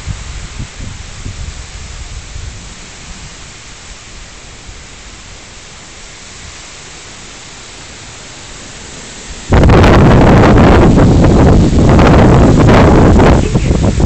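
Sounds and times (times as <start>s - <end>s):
wind buffeting microphone: 0.0s - 6.7s, 7.8s - 14.0s
heavy rain hiss: 0.0s - 14.0s.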